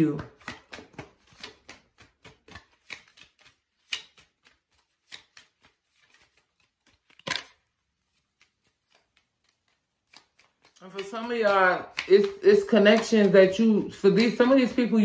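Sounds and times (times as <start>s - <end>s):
cards being shuffled: 0.0s - 15.0s
card snap: 0.4s - 7.6s, 8.4s - 14.8s.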